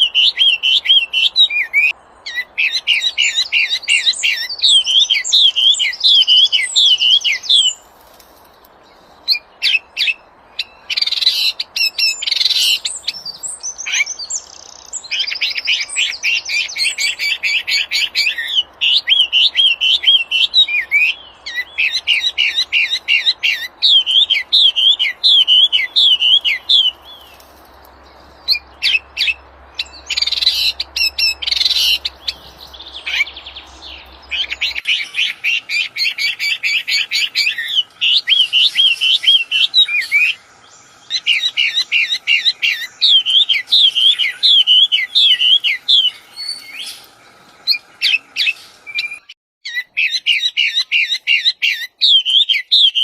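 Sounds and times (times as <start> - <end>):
songbird singing high notes: 9.3 - 27.4, 28.4 - 53.0.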